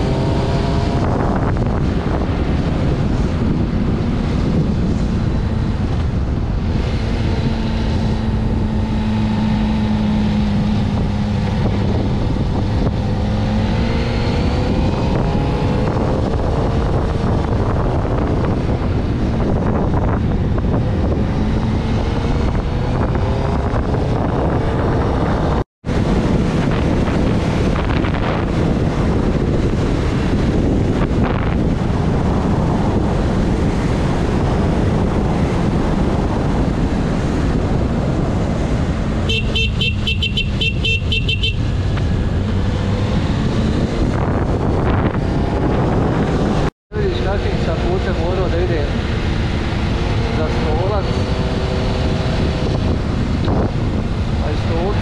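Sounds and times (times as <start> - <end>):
motorcycle engine: 0.0 - 55.0
wind rush on microphone: 0.0 - 55.0.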